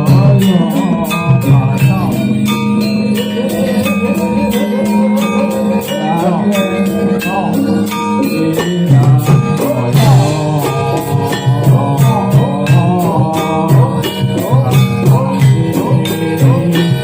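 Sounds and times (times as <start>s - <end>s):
heavy low notes: 0.0s - 17.0s
high jingling beat: 0.0s - 17.0s
metallophones holding notes: 0.0s - 17.0s
person singing: 0.0s - 17.0s.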